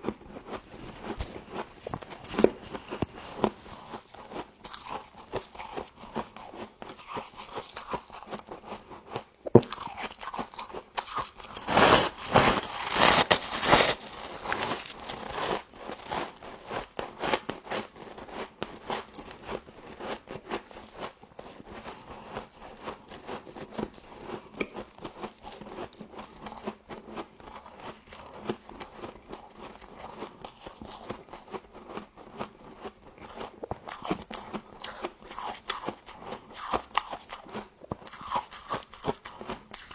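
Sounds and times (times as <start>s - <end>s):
frost being chewed: 0.0s - 39.9s.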